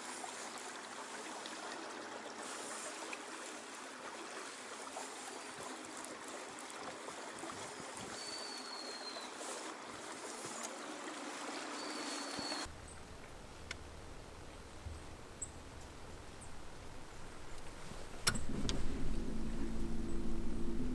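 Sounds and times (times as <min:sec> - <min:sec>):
water rushing along boat hull: 0:00.0 - 0:20.9.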